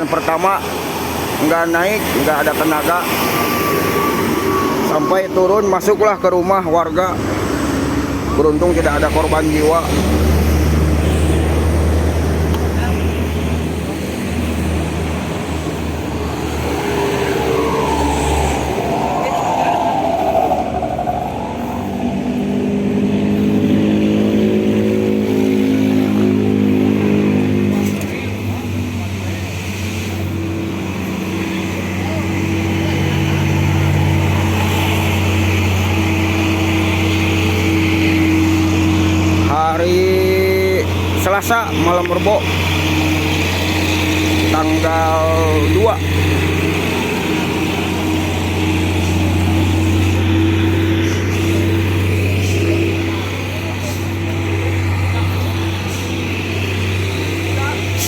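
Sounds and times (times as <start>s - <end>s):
heavy truck engine running: 0.0s - 58.0s.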